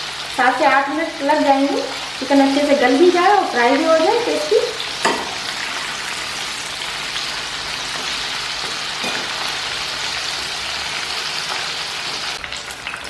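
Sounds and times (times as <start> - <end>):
oil sizzling while deep-frying: 0.0 - 13.0.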